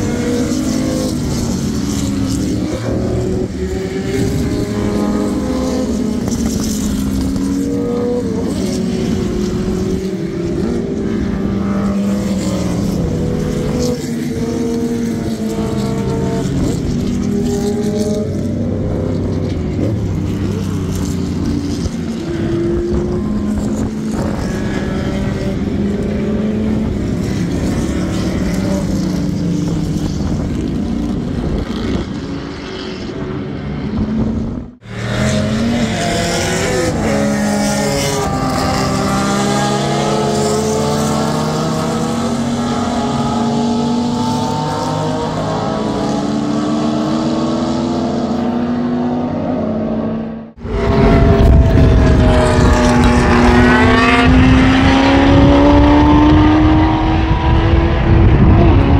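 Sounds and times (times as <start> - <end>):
race cars passing at speed: 0.0 - 58.9.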